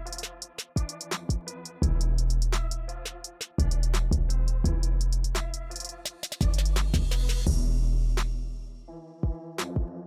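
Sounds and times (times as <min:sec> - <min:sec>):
electronic beat with deep bass: 0:00.0 - 0:10.0.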